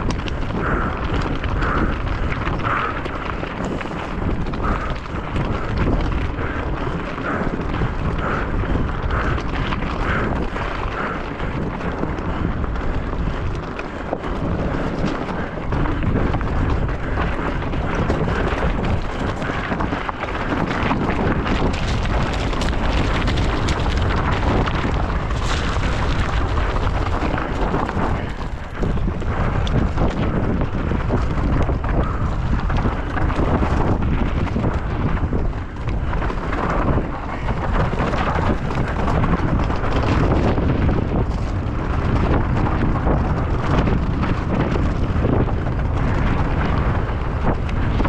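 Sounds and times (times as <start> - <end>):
mountain bike rattle and tyres: 0.0 - 48.0
wind buffeting microphone: 0.0 - 48.0.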